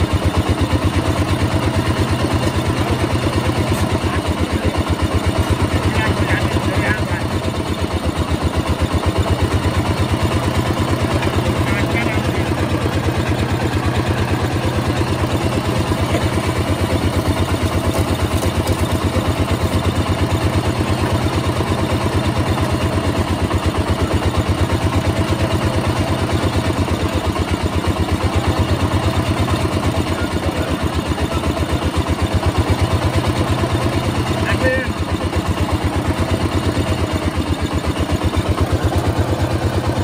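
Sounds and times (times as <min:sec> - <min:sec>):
small engine thumping: 0:00.0 - 0:40.0.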